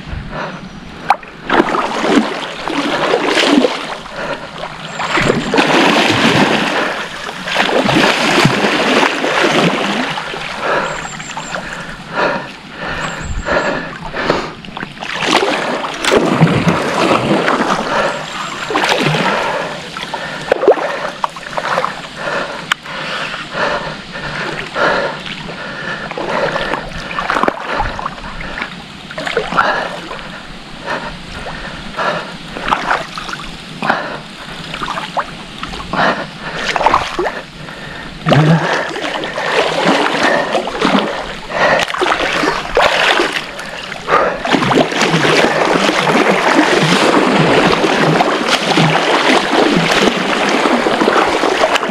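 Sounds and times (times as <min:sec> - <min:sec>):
water sloshing and splashing: 0:00.3 - 0:51.9.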